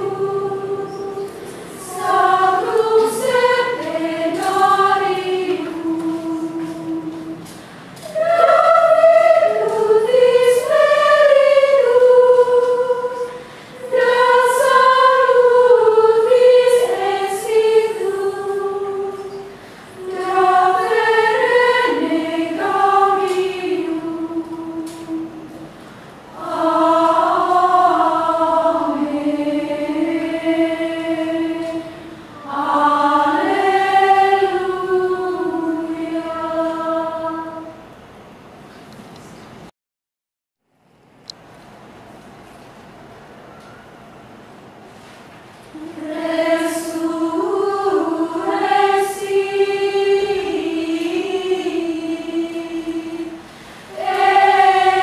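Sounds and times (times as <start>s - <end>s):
women's choir chanting: 0.0s - 25.7s, 26.3s - 37.9s, 45.7s - 55.0s.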